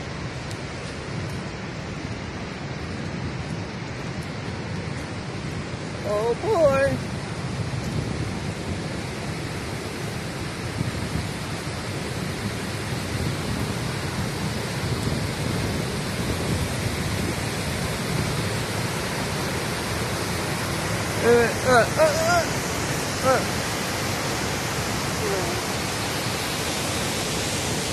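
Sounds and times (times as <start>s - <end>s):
waterfall roar: 0.0s - 27.9s.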